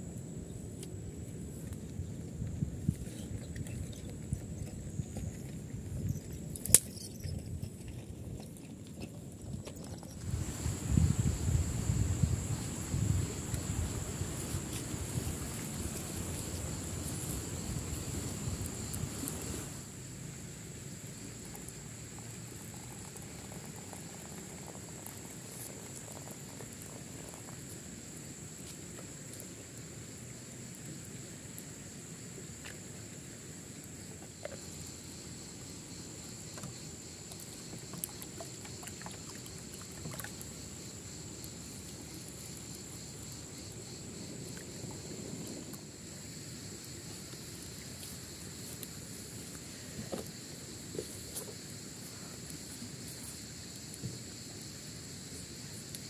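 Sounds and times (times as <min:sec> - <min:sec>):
insects trilling: 0:02.9 - 0:56.0.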